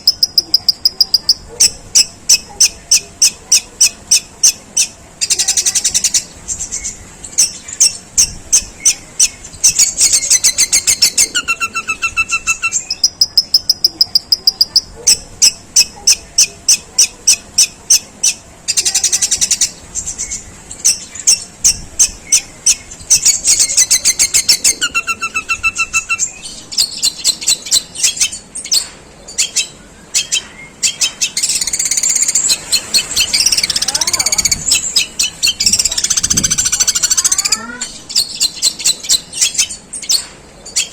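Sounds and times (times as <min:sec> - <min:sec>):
shrike chattering song: 0:00.0 - 0:40.9.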